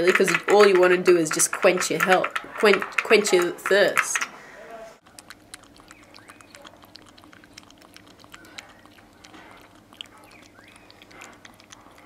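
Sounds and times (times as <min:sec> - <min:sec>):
ferret lapping water: 0:00.0 - 0:12.0.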